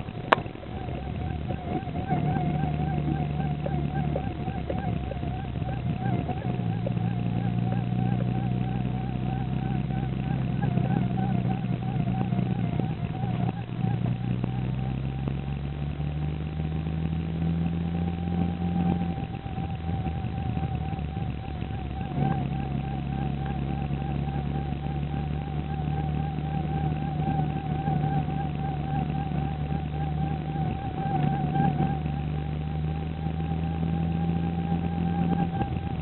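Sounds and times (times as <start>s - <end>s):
car engine: 0.0s - 36.0s
road noise: 0.0s - 36.0s
squeaking whine in car dashboard: 0.0s - 36.0s.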